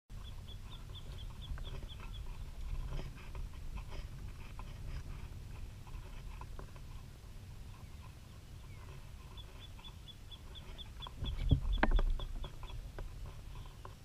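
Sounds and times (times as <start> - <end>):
steady low rumble: 0.1 - 13.8.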